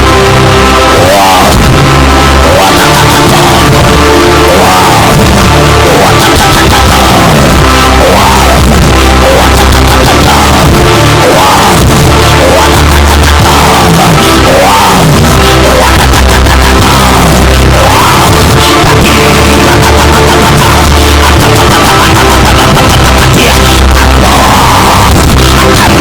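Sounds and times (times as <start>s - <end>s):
people singing or shouting: 0.0s - 26.0s
rock band music: 0.0s - 26.0s.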